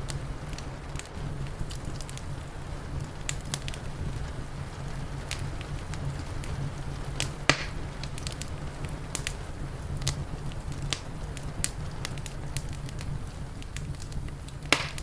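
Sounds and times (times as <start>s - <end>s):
steady low rumble: 0.0s - 15.0s
wood fire crackling and popping: 0.0s - 15.0s.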